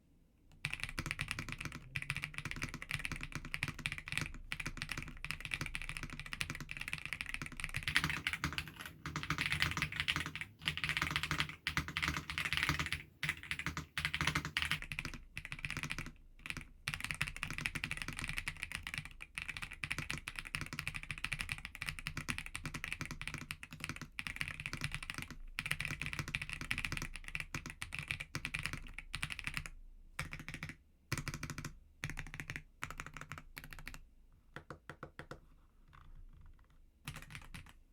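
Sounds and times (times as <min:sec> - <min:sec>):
mechanical keyboard typing: 0:00.6 - 0:34.0, 0:37.1 - 0:37.8.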